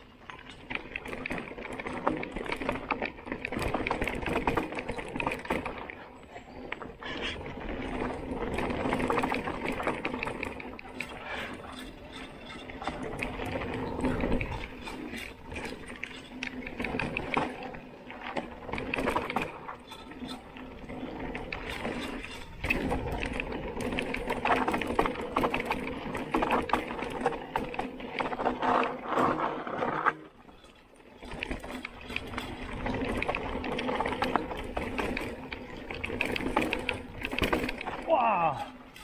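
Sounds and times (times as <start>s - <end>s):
bike parts rattling and clicking: 0.0s - 39.0s
tyres on loose dirt: 0.0s - 39.0s.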